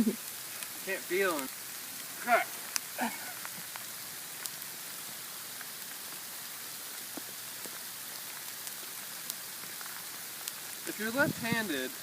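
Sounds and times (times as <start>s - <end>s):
hiss of falling sleet: 0.0s - 12.0s
ice pellets ticking: 0.0s - 12.0s.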